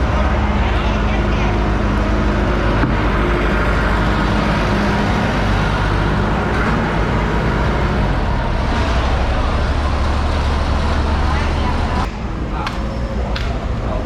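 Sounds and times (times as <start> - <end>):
loud traffic-like rumble: 0.0 - 14.0.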